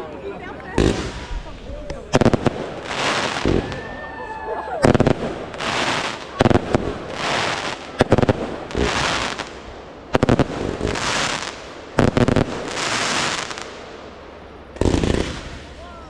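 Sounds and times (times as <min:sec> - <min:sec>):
fireworks crackling: 0:00.1 - 0:16.0
fireworks bangs: 0:00.7 - 0:04.2, 0:04.8 - 0:15.9.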